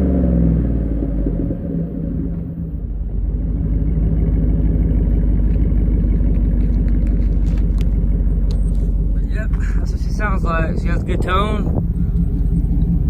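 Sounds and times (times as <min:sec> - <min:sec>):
engine rumbling through exhaust: 0:00.0 - 0:13.0.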